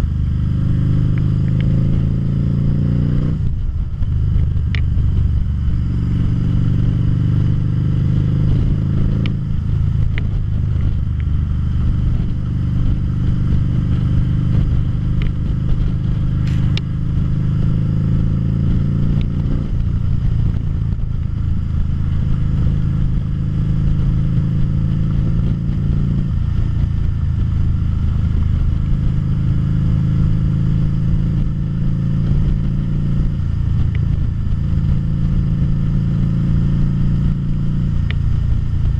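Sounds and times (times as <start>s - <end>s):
motorcycle engine at road speed: 0.0s - 38.9s.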